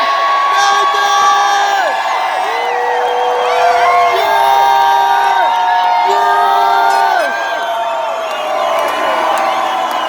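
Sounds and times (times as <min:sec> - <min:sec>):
crowd cheering and whooping: 0:00.0 - 0:10.0.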